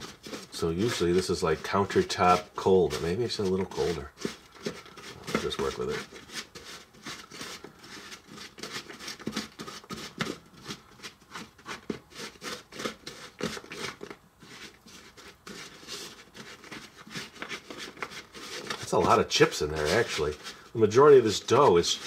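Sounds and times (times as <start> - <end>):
spoon scraping stiff dough: 0.0 - 22.0.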